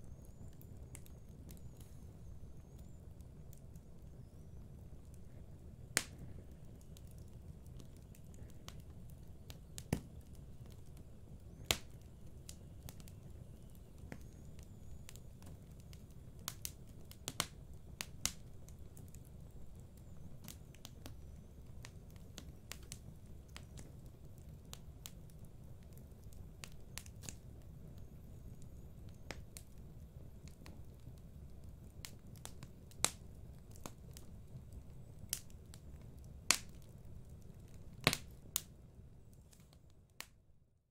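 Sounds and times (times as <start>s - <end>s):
fire crackling and popping: 0.0s - 40.4s.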